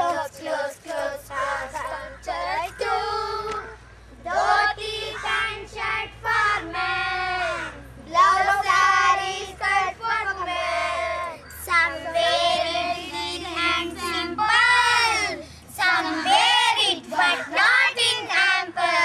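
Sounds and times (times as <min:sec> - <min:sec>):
children singing: 0:00.0 - 0:19.0.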